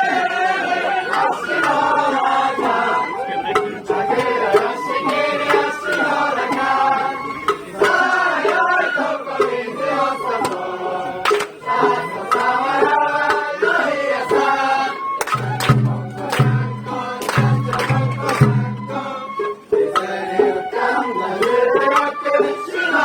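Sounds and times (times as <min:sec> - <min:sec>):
festival band music: 0:00.0 - 0:23.0
voices singing together: 0:00.0 - 0:23.0.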